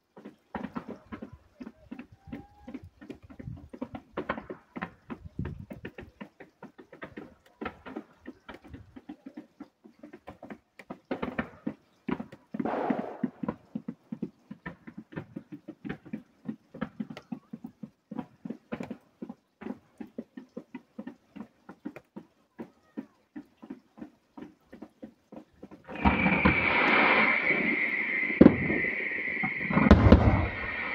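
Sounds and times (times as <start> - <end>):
distant fireworks popping and crackling: 0.0 - 30.9.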